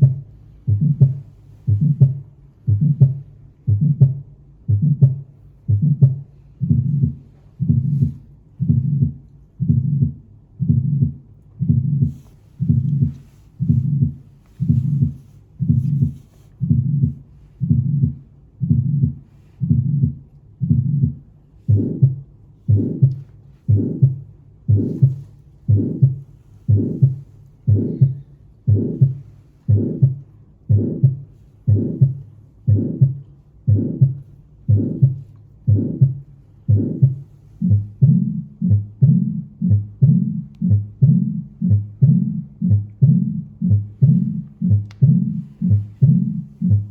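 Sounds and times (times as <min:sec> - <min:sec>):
heartbeat: 0:00.0 - 0:46.9.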